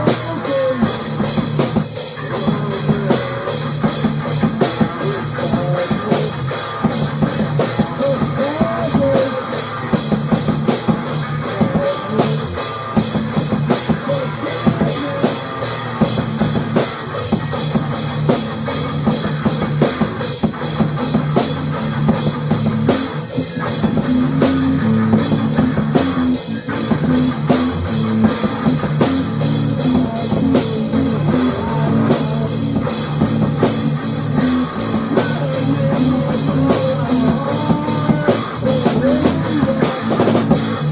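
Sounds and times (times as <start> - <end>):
instrumental rock music: 0.0 - 40.9.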